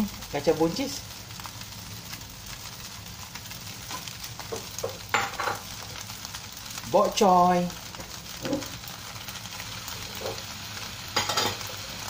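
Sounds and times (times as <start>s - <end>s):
fried rice sizzling in a wok: 0.0s - 12.0s.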